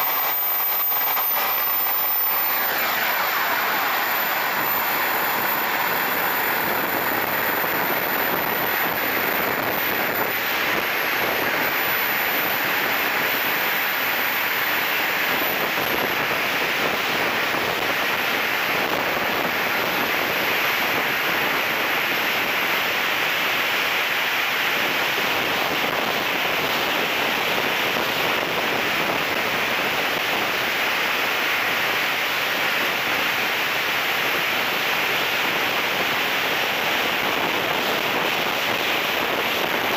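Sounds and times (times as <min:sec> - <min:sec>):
jet turbine whine: 0:00.0 - 0:39.9.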